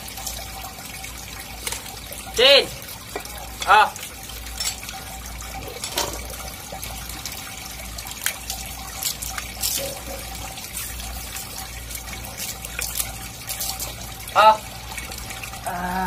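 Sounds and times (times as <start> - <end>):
water running from garden hose: 0.0 - 16.0.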